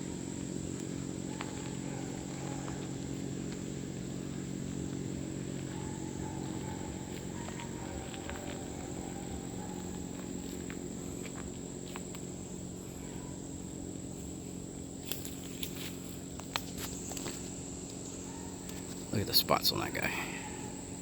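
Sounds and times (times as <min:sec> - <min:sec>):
crickets chirping: 0:00.0 - 0:21.0
low hum: 0:00.0 - 0:21.0.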